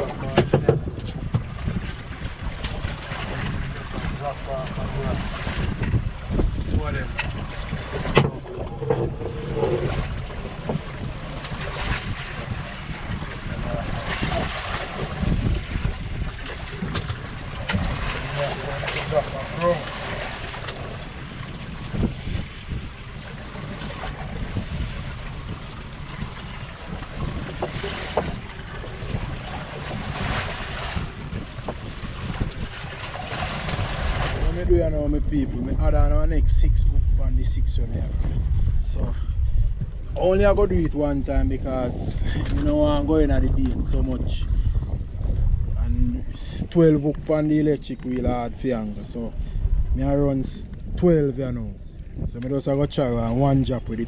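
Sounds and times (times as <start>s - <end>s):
water around a boat: 0.0s - 54.0s
wind on microphone: 0.0s - 54.0s.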